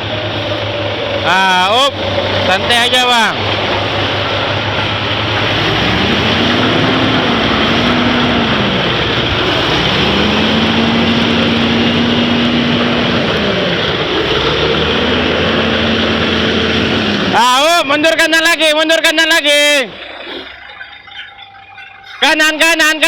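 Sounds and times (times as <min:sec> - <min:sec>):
truck diesel engine revving: 0:00.0 - 0:23.0.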